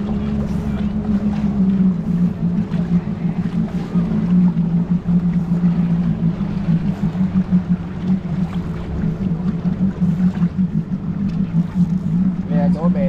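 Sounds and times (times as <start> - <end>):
jet ski engine droning: 0.0 - 13.0
water noise: 0.0 - 13.0.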